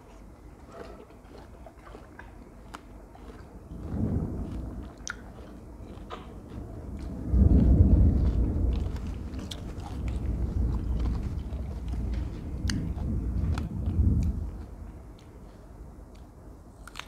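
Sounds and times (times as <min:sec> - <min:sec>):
person chewing melon: 0:00.0 - 0:17.0.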